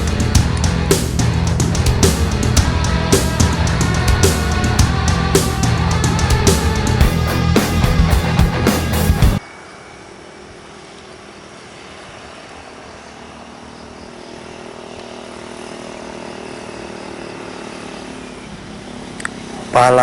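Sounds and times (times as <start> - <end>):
bus engine droning: 0.0 - 9.4, 10.0 - 20.0.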